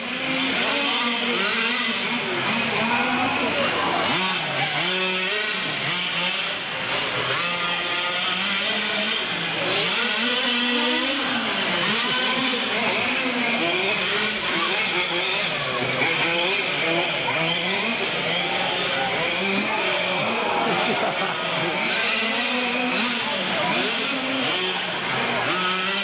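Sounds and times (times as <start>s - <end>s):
small motors whining: 0.0s - 26.0s.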